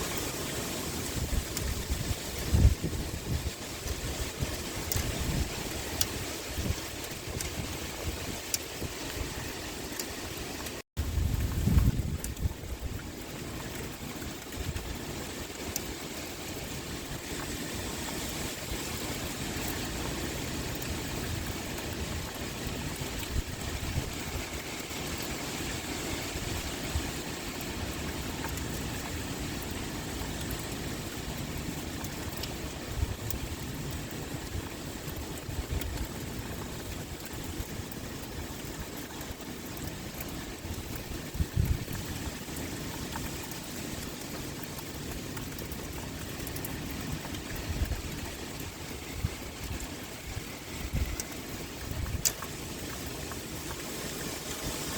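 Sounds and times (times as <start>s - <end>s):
wind blowing: 0.0s - 38.0s, 46.1s - 54.9s
pouring rain: 0.0s - 54.9s.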